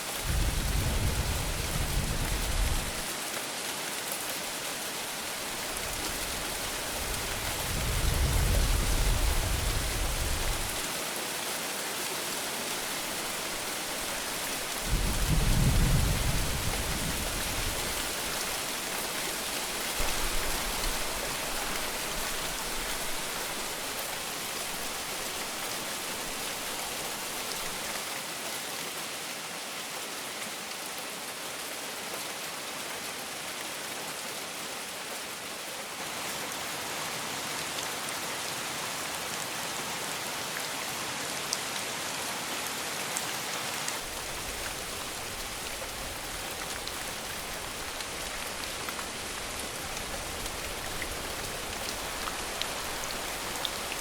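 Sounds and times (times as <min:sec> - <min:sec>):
heavy rain falling: 0:00.0 - 0:30.9, 0:33.1 - 0:54.0.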